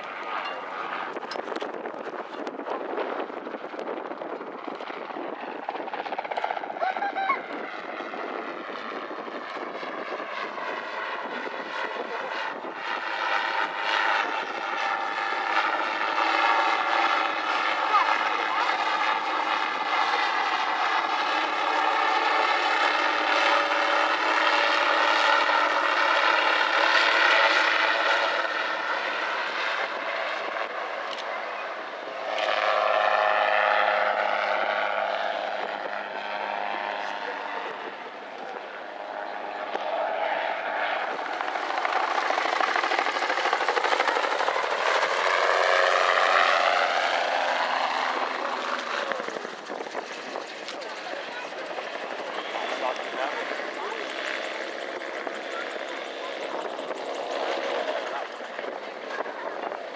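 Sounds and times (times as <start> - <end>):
gyroplane engine and propeller drone: 0.0 - 59.9.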